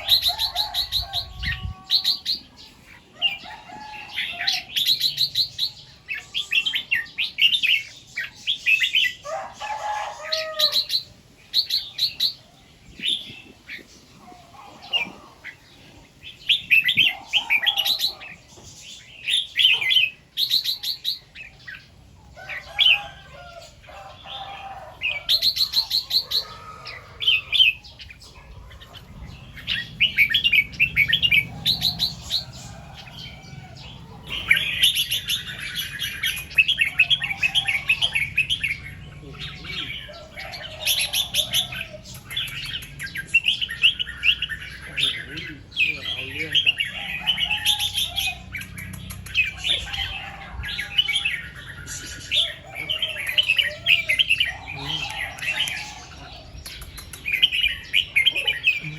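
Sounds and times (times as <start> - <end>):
bird singing warbling phrases: 0.0 - 58.9.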